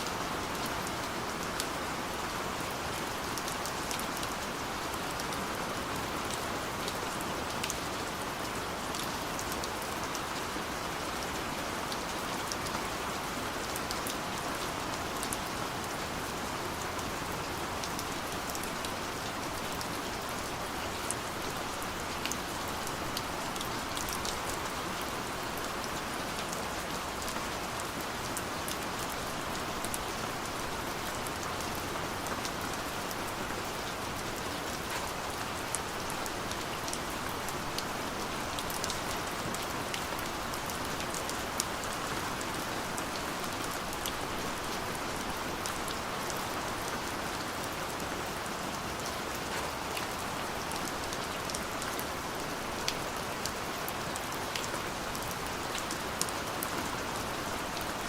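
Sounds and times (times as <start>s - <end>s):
light rain pattering: 0.0s - 58.0s.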